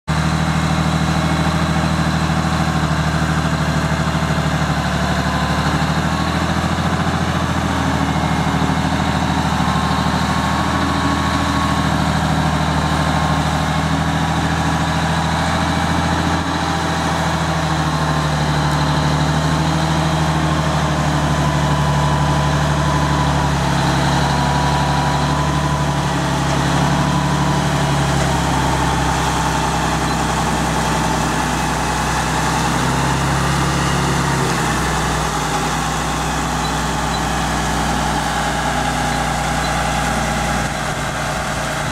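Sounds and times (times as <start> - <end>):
heavy engine humming: 0.1 - 41.9.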